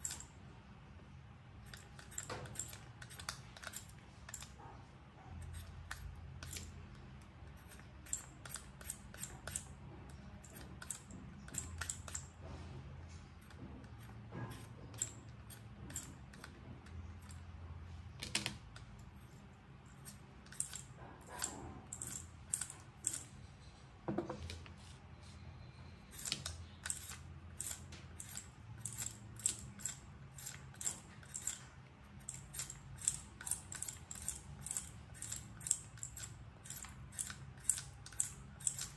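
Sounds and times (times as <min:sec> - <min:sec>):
peeler scraping potato skin: 0:00.0 - 0:00.4, 0:01.6 - 0:04.7, 0:05.4 - 0:12.5, 0:13.3 - 0:23.7, 0:24.6 - 0:38.9.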